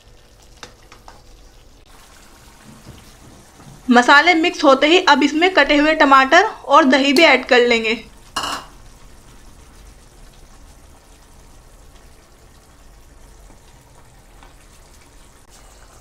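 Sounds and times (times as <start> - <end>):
minced meat sizzling in a pan: 0.0 - 16.0.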